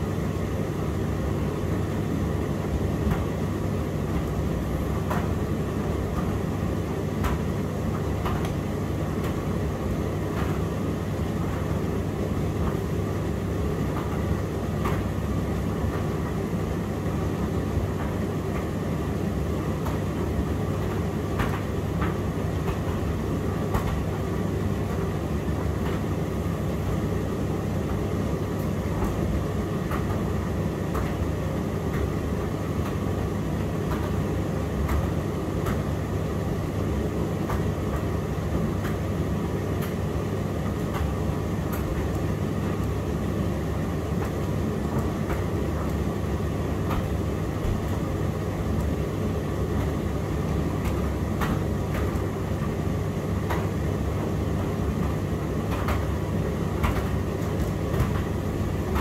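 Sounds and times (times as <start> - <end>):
tumble dryer rumbling: 0.0 - 59.0.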